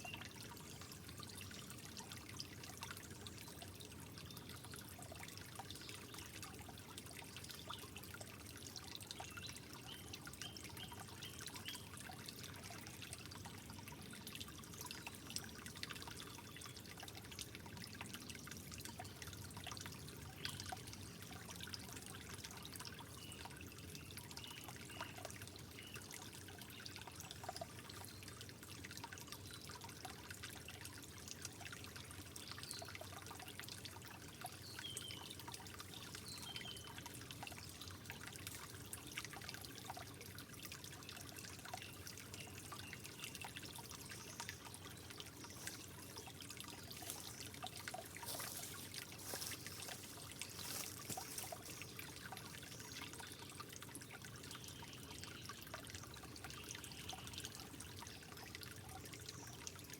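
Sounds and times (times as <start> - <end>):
water drips and splashes: 0.0 - 59.9
water trickling: 0.0 - 59.9.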